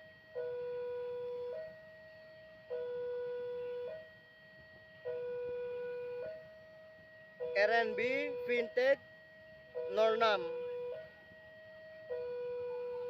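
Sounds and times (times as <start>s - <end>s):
two-tone electronic alarm: 0.0s - 13.0s.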